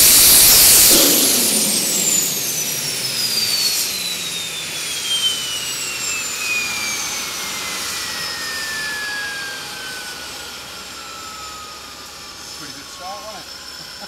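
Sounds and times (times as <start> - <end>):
gas turbine winding down: 0.0 - 14.0.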